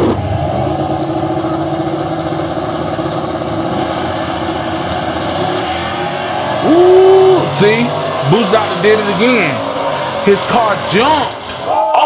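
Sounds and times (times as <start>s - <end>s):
big car engines idling: 0.0s - 12.0s.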